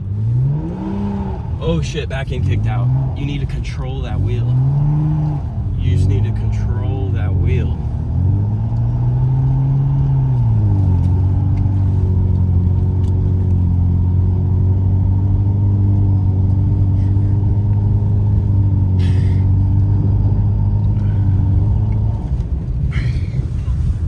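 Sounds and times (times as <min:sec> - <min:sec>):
car engine while driving: 0:00.0 - 0:24.0.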